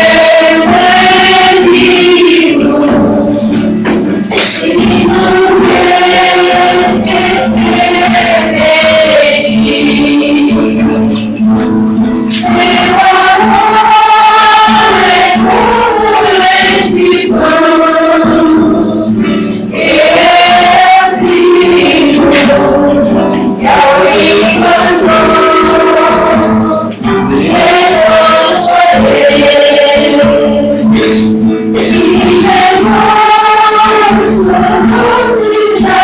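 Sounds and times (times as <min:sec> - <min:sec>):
people singing a hymn: 0:00.0 - 0:11.5, 0:12.2 - 0:36.0.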